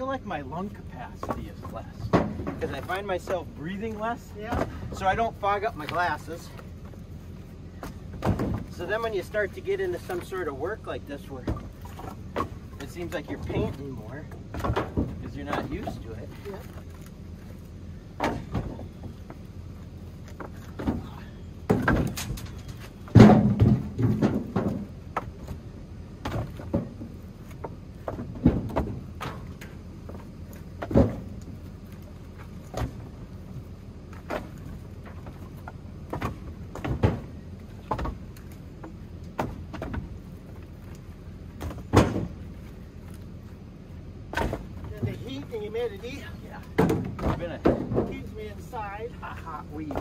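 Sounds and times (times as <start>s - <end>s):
firewood knocking and clattering: 0.6s - 43.6s, 44.3s - 50.0s.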